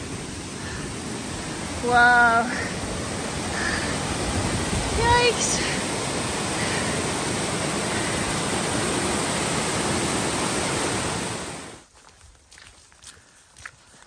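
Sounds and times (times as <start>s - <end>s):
water rushing over rock: 0.0s - 11.8s.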